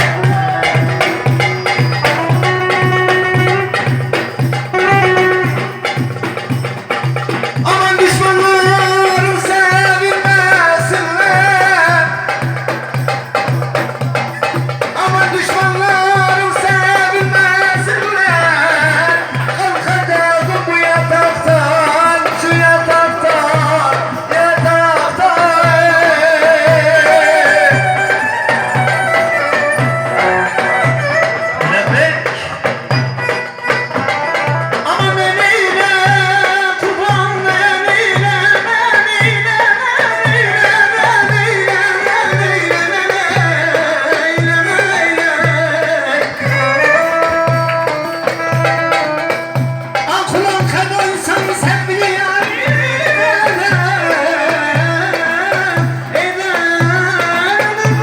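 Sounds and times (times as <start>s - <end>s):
folk singing with instruments: 0.0s - 3.6s, 7.5s - 32.1s, 34.0s - 58.0s.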